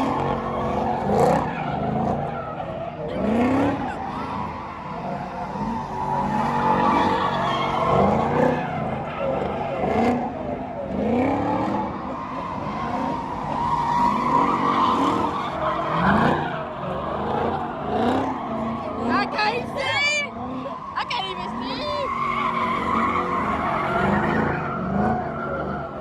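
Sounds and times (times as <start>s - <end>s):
car engines revving: 0.0s - 26.0s
tire squeal: 0.0s - 26.0s.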